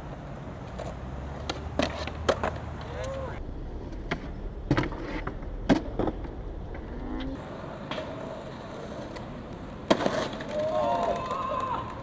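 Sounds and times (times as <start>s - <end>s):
open-air plaza ambience: 0.0s - 12.0s
skateboard wheels rolling: 0.0s - 12.0s
skateboard clacking on concrete: 0.6s - 3.3s, 4.0s - 12.0s.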